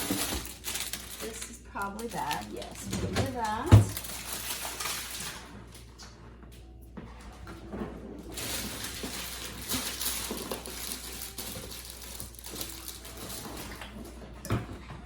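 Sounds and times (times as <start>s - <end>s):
kitchen containers clattering: 0.0s - 6.3s, 7.0s - 15.0s.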